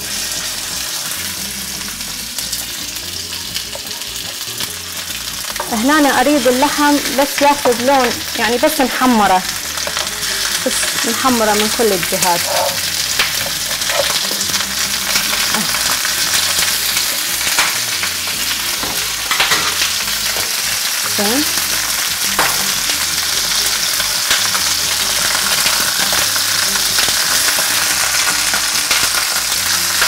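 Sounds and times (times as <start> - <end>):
meat sizzling in a frying pan: 0.0 - 30.0.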